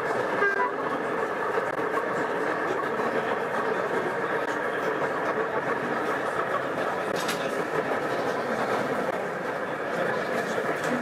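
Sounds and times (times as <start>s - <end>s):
model diesel locomotive running: 0.0s - 11.0s.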